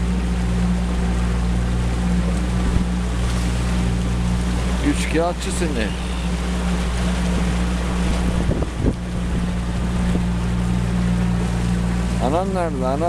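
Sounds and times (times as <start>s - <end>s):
motorboat engine drone: 0.0s - 13.0s
water noise: 0.0s - 13.0s
wind: 0.0s - 13.0s.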